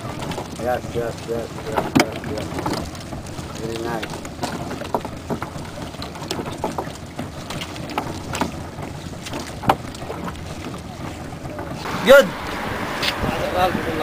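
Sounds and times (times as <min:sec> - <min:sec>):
light knocks against wooden hull: 0:00.0 - 0:11.9
water noise: 0:00.0 - 0:14.0
wind: 0:00.0 - 0:14.0.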